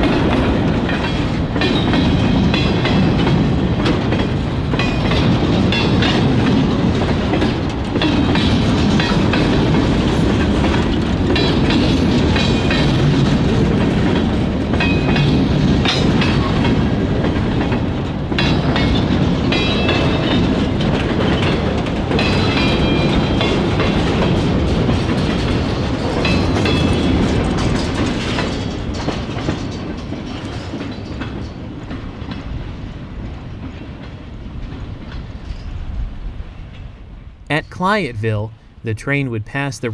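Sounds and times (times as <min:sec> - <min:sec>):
train wheel clicks: 0:00.0 - 0:35.9
freight train rumbling on track: 0:00.0 - 0:38.8.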